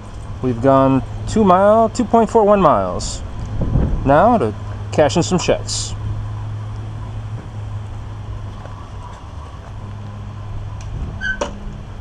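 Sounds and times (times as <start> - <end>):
outdoor background noise: 0.0 - 12.0
steady low hum: 0.0 - 12.0.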